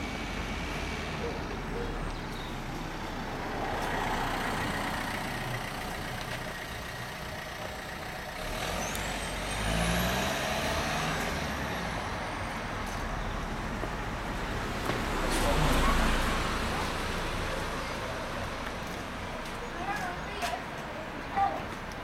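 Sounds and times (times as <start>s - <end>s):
large vehicle engine running: 0.0s - 22.0s.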